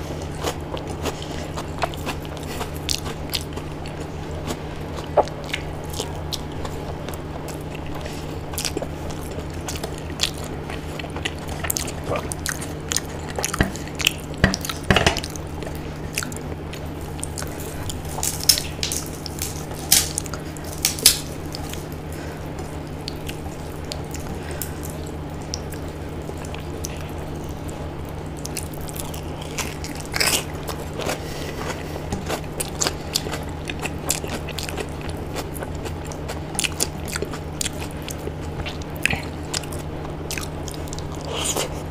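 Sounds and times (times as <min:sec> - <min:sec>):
chewing and crunching food: 0:00.0 - 0:41.9
steady low hum: 0:00.0 - 0:41.9.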